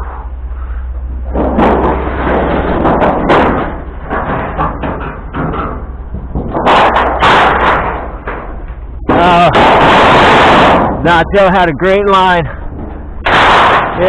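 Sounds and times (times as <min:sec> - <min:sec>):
low steady hum: 0:00.0 - 0:14.0
scrap metal clanking: 0:00.0 - 0:14.0.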